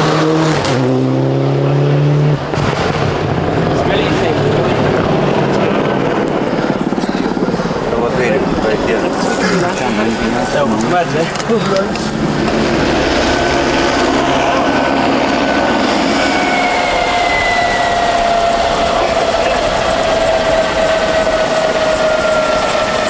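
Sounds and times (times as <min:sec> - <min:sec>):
helicopter flying overhead: 0:00.8 - 0:23.0.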